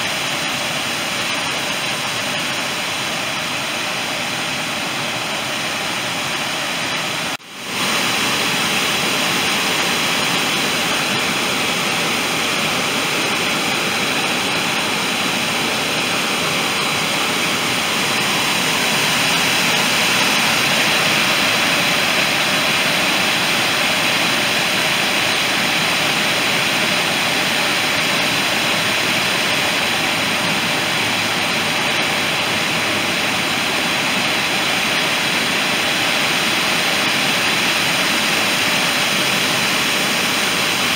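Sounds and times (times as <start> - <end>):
water rushing over spillway: 0.0 - 40.9.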